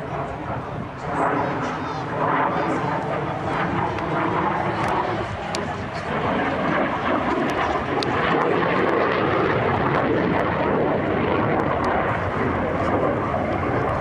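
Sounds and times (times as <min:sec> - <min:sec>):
jet engine roaring overhead: 0:00.0 - 0:14.0.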